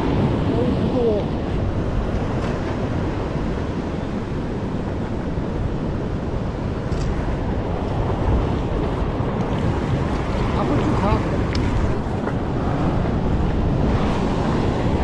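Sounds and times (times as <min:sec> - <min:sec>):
surf washing over rocks: 0:00.0 - 0:15.0
wind buffeting microphone: 0:00.0 - 0:15.0.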